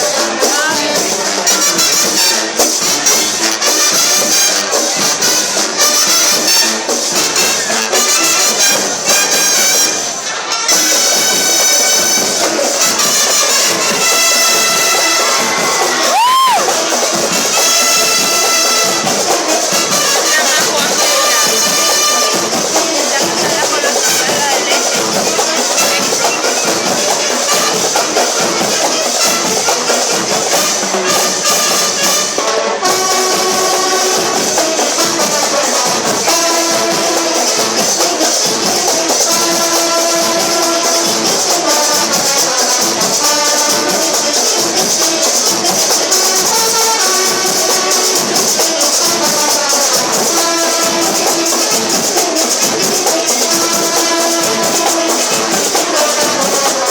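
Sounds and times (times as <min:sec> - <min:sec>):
brass band horns: 0:00.0 - 0:56.9
drum beats: 0:00.0 - 0:56.9.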